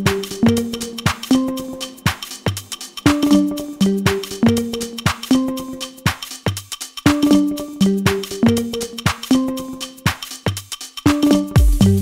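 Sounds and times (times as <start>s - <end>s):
electronic game music: 0.0s - 12.0s.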